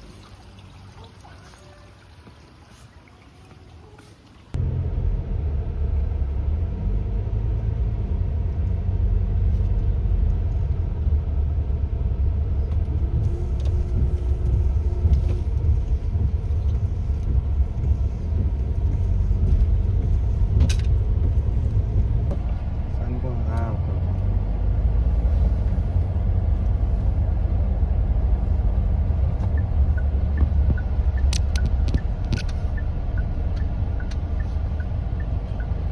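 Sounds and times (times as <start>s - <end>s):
car engine running: 4.5s - 35.9s.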